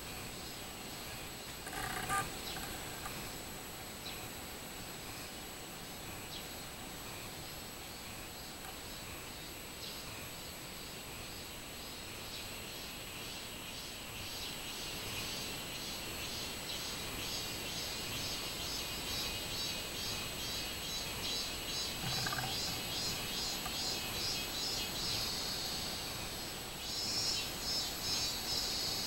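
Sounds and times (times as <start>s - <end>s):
cicada calling: 0.0s - 29.0s.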